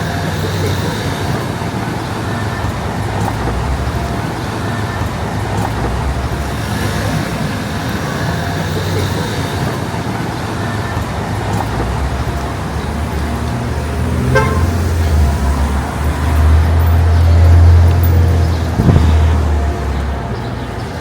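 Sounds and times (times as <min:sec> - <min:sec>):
car and bus engines passing: 0:00.0 - 0:21.0
road noise: 0:00.0 - 0:21.0.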